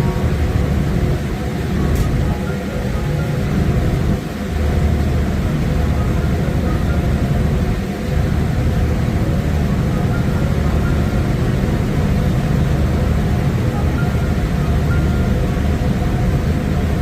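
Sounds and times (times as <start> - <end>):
faint hum: 0.0 - 17.0
large engine droning: 0.0 - 17.0.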